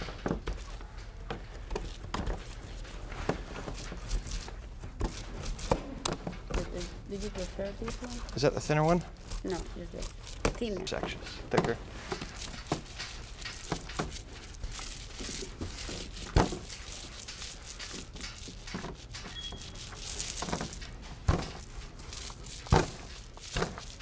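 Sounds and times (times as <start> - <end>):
paint roller spreading glue: 0.0 - 24.0.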